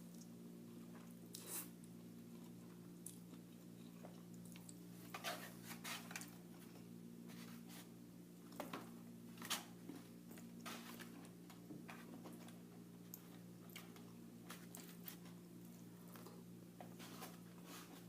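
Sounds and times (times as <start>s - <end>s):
low electrical hum: 0.0s - 18.0s
person chewing food: 0.1s - 7.0s, 10.2s - 18.0s.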